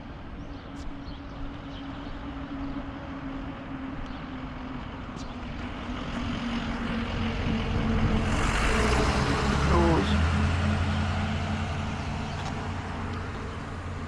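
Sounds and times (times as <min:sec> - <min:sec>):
motor vehicle humming: 0:00.0 - 0:14.0.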